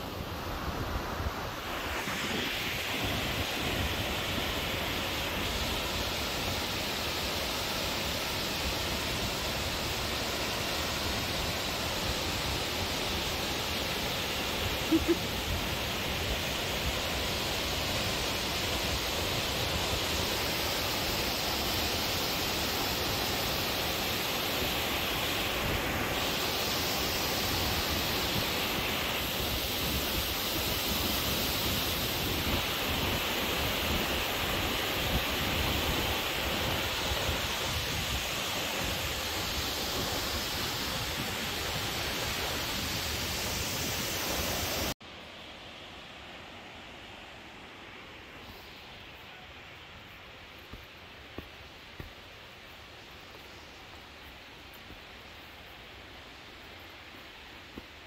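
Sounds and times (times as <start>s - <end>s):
waterfall rushing over rock: 0.0s - 58.0s.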